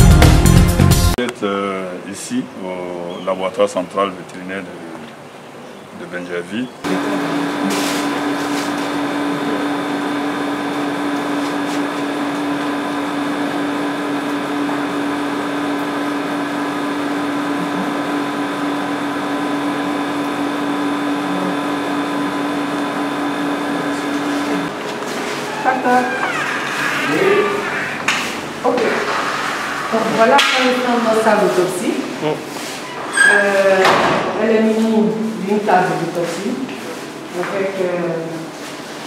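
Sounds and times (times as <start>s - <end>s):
air conditioner whirring hum: 1.2s - 39.0s.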